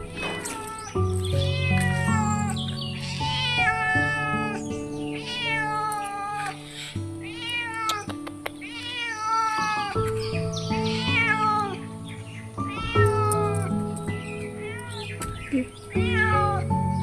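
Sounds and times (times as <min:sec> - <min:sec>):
cat meowing: 0:00.0 - 0:11.9, 0:12.6 - 0:17.0
background music with held chords: 0:00.0 - 0:17.0.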